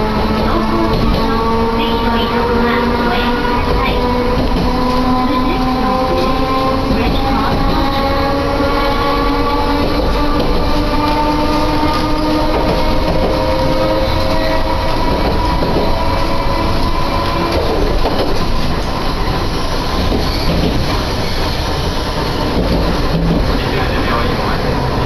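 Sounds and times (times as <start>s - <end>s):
streetcar wheels rumbling on rail: 0.0s - 25.0s.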